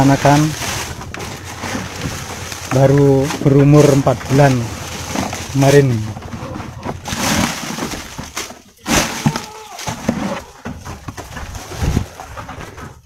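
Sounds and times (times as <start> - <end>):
crackly rustling and clattering: 0.0 - 13.0.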